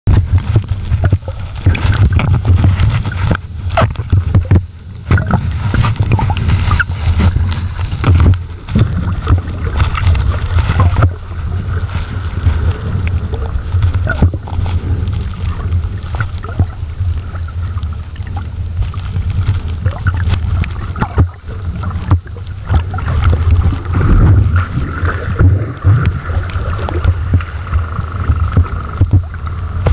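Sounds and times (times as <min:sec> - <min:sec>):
underwater low rumble: 0:00.0 - 0:29.9
underwater clicks and knocks: 0:00.1 - 0:11.2, 0:11.8 - 0:29.9.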